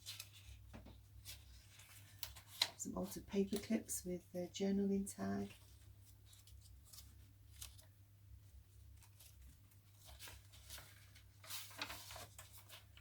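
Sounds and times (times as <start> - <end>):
paper rustling: 0.0 - 3.8, 5.4 - 8.0, 8.7 - 13.0
low steady hum: 0.2 - 12.5.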